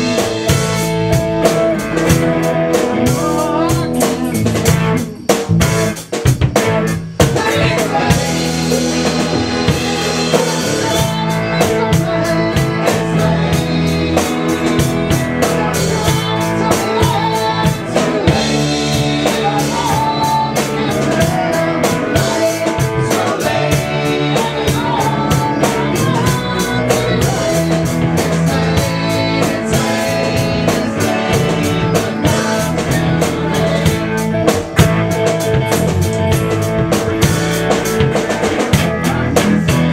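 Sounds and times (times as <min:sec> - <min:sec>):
band playing drums and guitar: 0:00.0 - 0:39.9.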